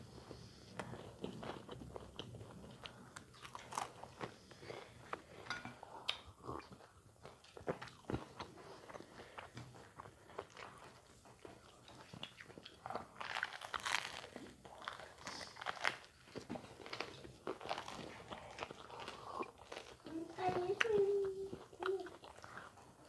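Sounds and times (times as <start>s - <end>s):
crunchy food being chewed: 0.1s - 23.0s.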